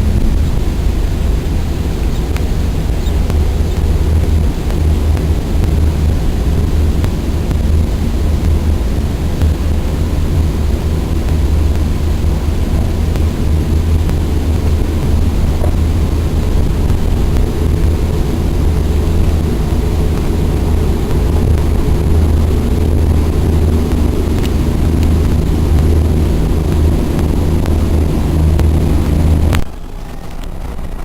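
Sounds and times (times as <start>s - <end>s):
train running low rumble: 0.0s - 31.0s.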